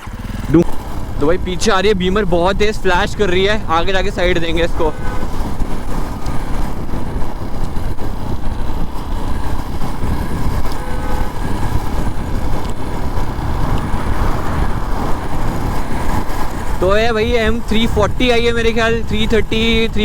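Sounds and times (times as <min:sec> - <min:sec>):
motorcycle engine: 0:00.0 - 0:20.0
road rumble: 0:00.0 - 0:20.0
wind buffeting microphone: 0:00.0 - 0:20.0.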